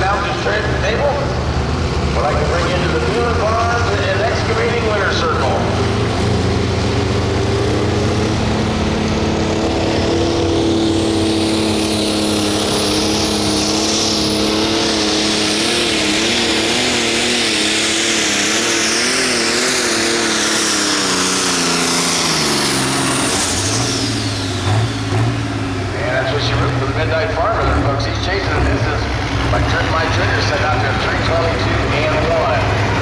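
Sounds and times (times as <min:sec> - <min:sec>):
high whine: 0:00.0 - 0:33.0
tractor diesel engine under load: 0:00.0 - 0:33.0.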